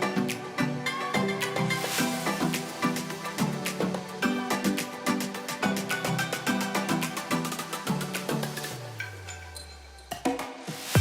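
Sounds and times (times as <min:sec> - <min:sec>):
music with quick percussion beat: 0:01.3 - 0:11.0.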